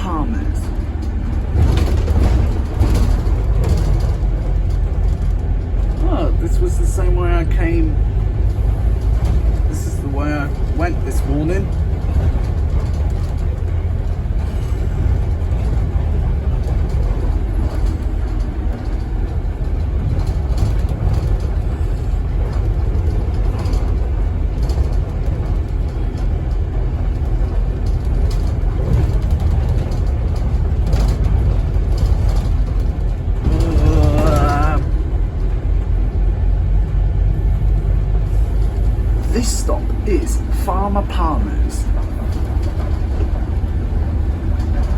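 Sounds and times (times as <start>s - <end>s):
bodywork rattles and knocks: 0.0s - 6.4s, 7.0s - 44.9s
bus engine and road rumble: 0.0s - 44.9s.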